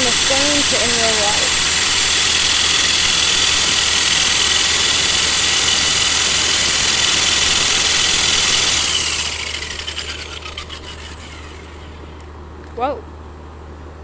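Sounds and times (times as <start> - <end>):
electric drill whining: 0.0 - 12.3.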